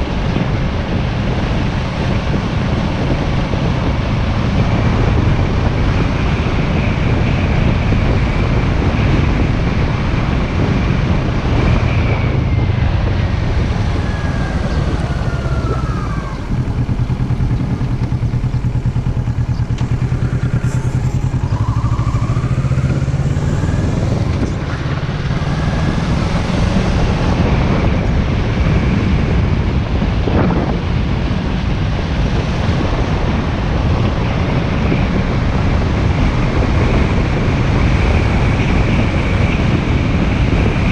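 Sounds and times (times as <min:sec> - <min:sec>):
motorcycle engine running: 0:00.0 - 0:40.9
wind rushing: 0:00.0 - 0:40.9.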